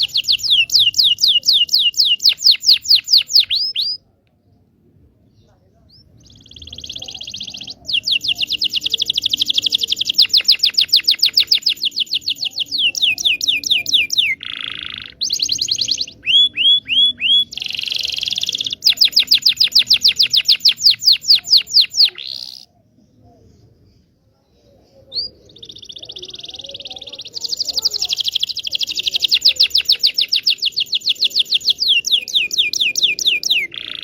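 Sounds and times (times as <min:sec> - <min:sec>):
canary singing: 0:00.0 - 0:04.0, 0:05.9 - 0:22.7, 0:24.8 - 0:34.0.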